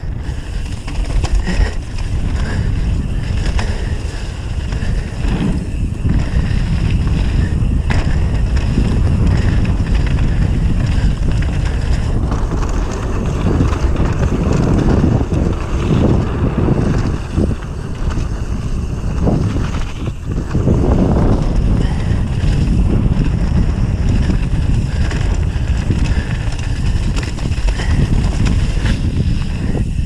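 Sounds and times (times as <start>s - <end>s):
bike rattling over bumps: 0.0s - 30.0s
tyres rumbling on dirt: 0.0s - 30.0s
wind buffeting microphone: 0.0s - 30.0s.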